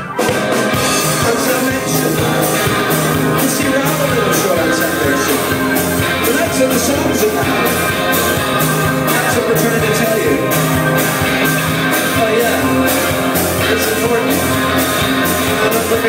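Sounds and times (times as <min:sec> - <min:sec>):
drums: 0:00.0 - 0:16.0
electric guitar: 0:00.0 - 0:16.0
upright bass: 0:00.0 - 0:16.0.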